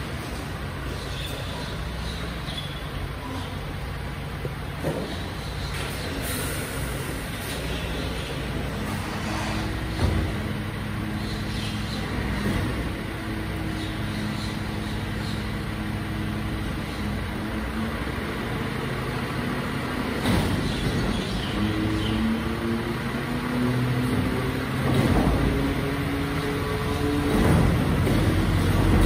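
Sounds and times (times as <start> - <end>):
garbage truck running: 0.0 - 29.0.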